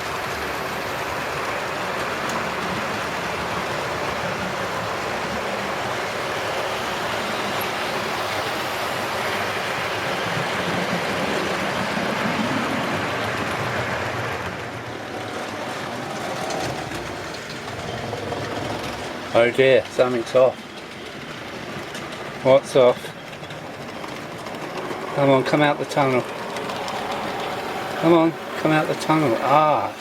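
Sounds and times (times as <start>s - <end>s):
model train wheels rattling on rail: 0.0s - 30.0s
locomotive motors whirring: 0.2s - 30.0s.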